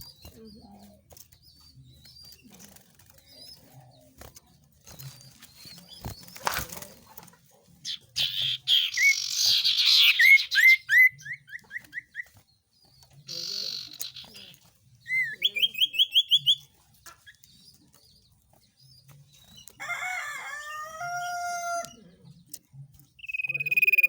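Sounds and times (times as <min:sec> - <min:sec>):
small songbirds calling: 0:00.0 - 0:24.0.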